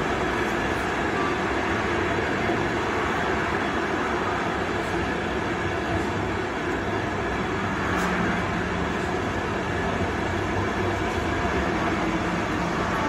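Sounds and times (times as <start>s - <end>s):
train rolling rumble: 0.0s - 13.0s.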